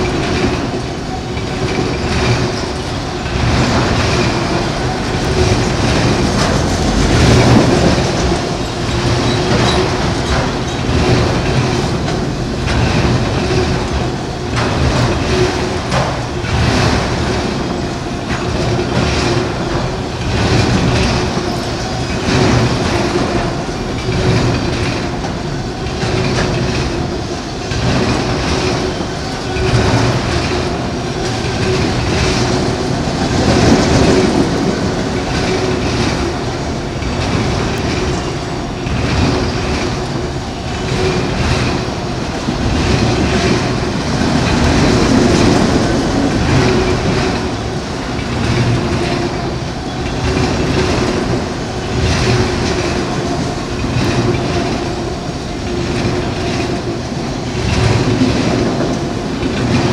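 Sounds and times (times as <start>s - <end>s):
freight train rolling past: 0.0s - 59.9s
wheels clacking over rail joints: 0.0s - 59.9s.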